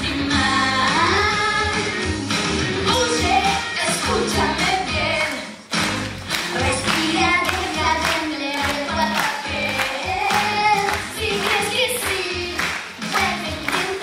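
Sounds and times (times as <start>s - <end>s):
backing track with steady beat: 0.0s - 14.0s
children singing pop song: 0.0s - 14.0s.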